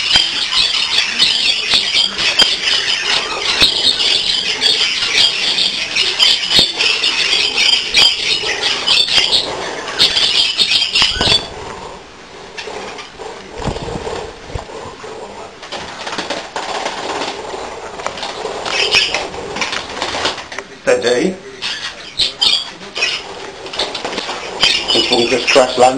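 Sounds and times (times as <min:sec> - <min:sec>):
budgerigars chattering and warbling: 0:00.0 - 0:25.9.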